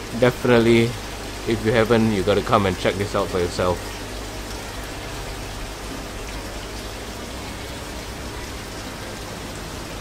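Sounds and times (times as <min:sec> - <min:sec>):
aquarium bubbles fizzing: 0:00.0 - 0:10.0
low steady hum: 0:00.0 - 0:10.0.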